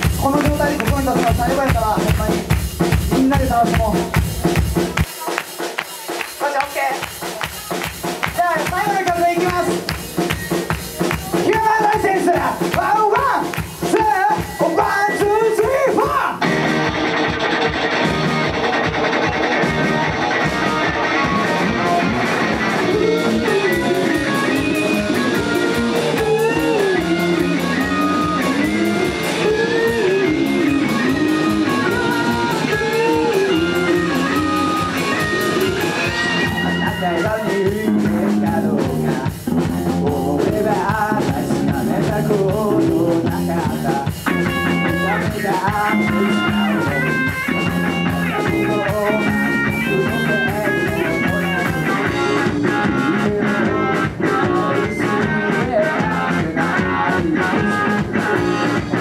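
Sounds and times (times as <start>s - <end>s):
melodic lead guitar line: 0.0s - 59.0s
rock band playing live: 0.0s - 59.0s.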